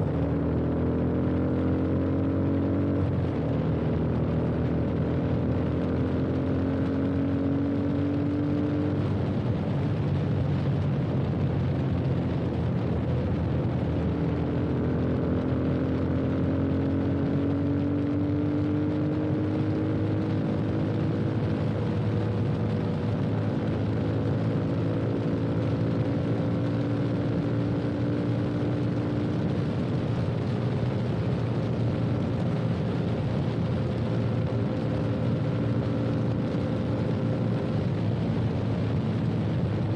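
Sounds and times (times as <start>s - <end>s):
motorcycle engine revving: 0.0s - 11.0s, 11.6s - 39.9s.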